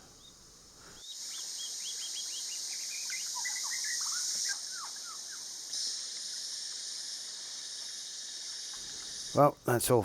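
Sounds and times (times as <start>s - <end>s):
steady high hiss: 0.0s - 10.0s.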